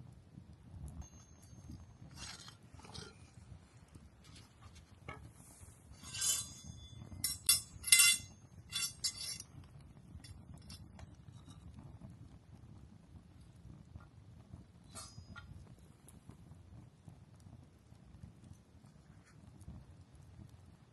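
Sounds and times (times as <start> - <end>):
campfire crackling: 0.0 - 20.9
flames rumbling: 0.0 - 20.9.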